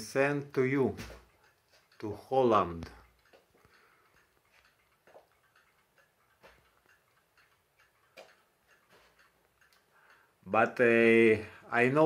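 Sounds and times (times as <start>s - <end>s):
clock ticking faintly: 0.0s - 12.0s.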